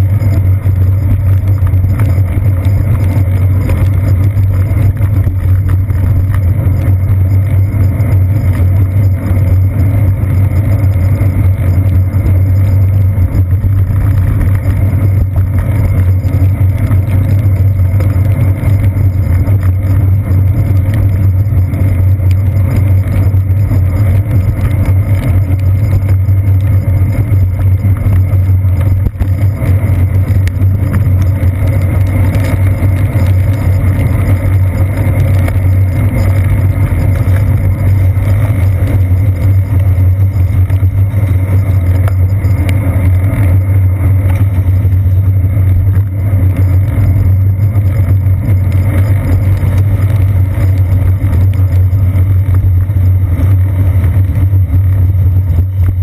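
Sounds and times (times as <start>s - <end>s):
bicycle tyres on wet pavement: 0.0s - 56.0s.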